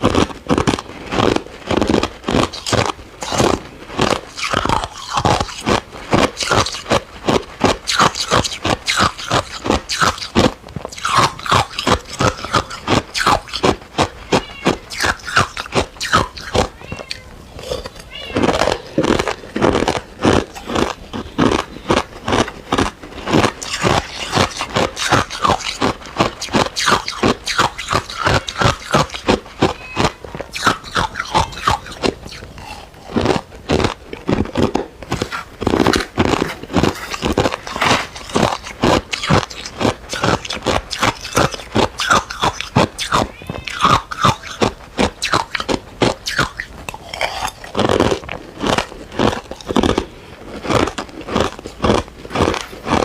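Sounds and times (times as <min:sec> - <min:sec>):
ice cubes crunching in mouth: 0:00.0 - 0:53.0.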